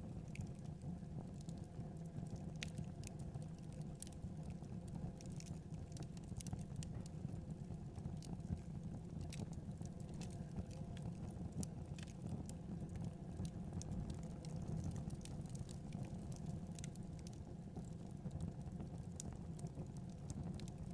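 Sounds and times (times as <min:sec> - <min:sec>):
wood fire crackling: 0:00.3 - 0:20.9.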